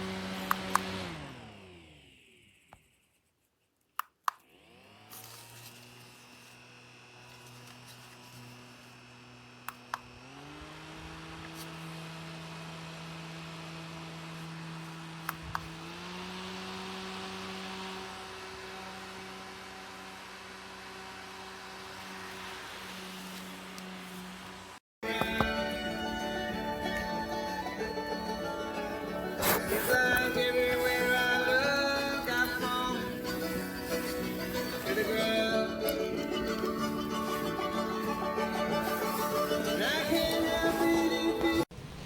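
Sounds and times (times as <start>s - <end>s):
mini fan motor whirring: 0.0s - 3.2s, 4.4s - 41.7s.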